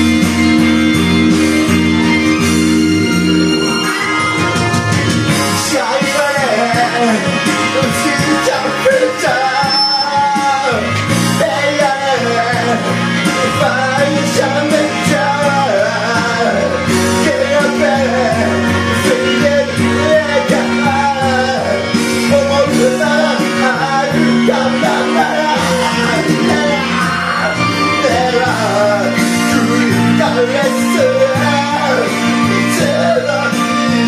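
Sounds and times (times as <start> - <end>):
band backing track: 0.0 - 34.0
man singing karaoke: 0.0 - 34.0.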